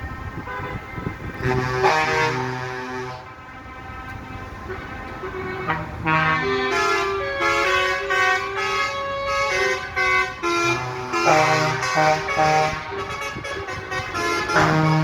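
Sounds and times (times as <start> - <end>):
vehicle horns honking: 0.4 - 15.0.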